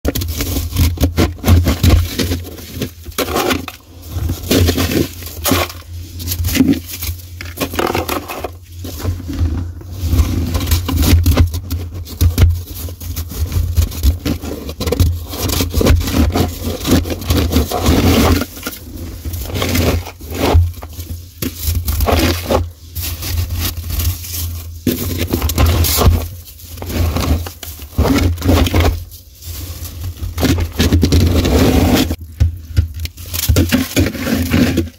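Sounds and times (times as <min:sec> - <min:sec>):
gloved hand scraping frost: 0:00.1 - 0:32.4, 0:33.1 - 0:34.9.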